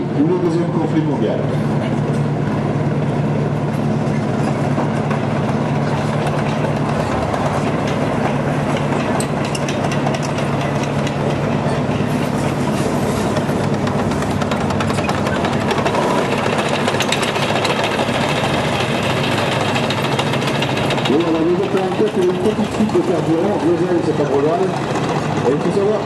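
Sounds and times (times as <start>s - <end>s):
tank engine running: 0.0s - 26.0s
rapid clatter: 4.1s - 12.6s, 13.2s - 26.0s.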